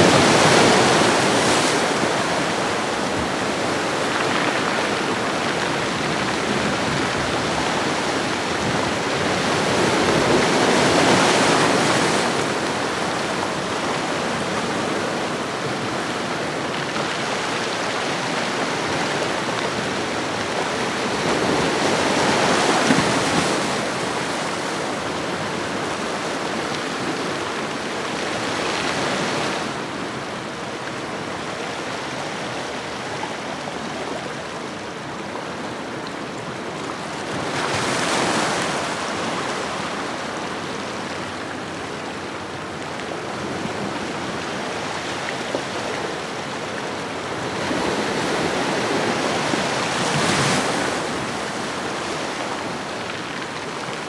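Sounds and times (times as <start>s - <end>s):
ocean surf washing on shore: 0.0s - 54.0s.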